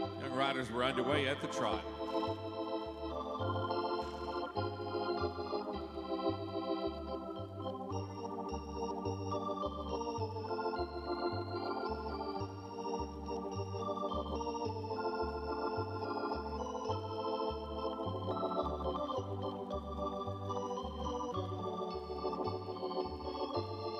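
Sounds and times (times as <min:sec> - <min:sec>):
organ music with bass beat: 0:00.0 - 0:23.9.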